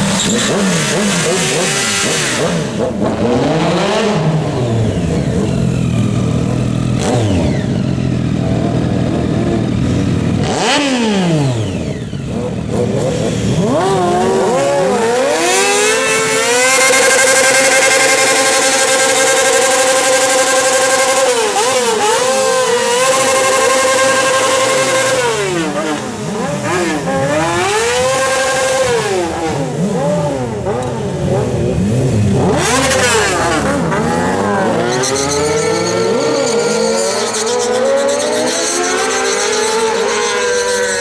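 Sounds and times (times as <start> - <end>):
motorbike engines revving: 0.0 - 41.0.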